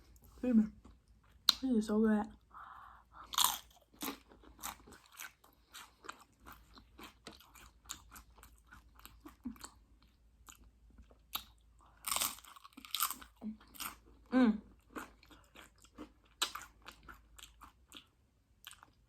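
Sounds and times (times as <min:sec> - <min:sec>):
crunching and chewing chips: 0:03.2 - 0:19.0.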